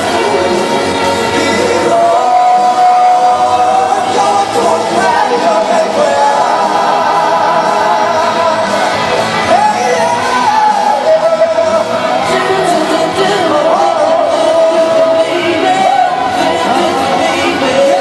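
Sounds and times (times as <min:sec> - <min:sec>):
loud backing music: 0:00.0 - 0:18.0.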